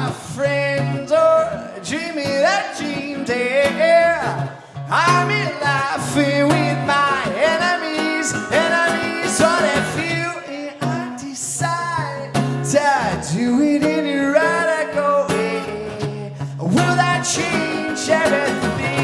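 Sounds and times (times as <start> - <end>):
guitar accompaniment: 0.0 - 19.0
man singing: 0.0 - 19.0.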